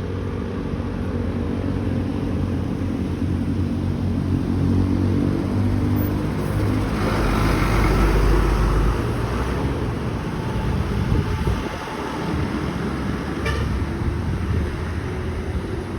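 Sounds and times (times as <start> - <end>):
bus engine rumble: 0.0 - 15.9
road and traffic noise: 0.0 - 15.9.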